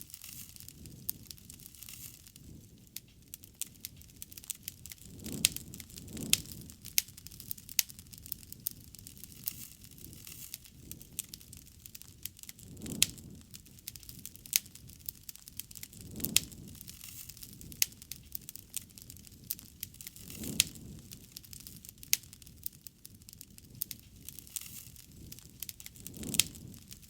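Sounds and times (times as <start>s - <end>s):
low rush of flame: 0.0s - 27.0s
wood fire crackling: 0.0s - 27.0s.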